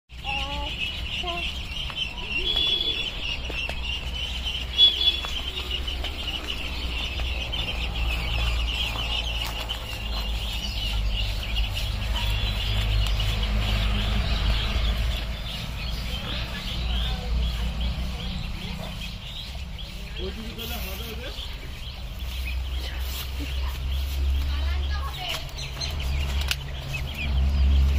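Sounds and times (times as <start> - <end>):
ducklings peeping: 0.1 - 27.9.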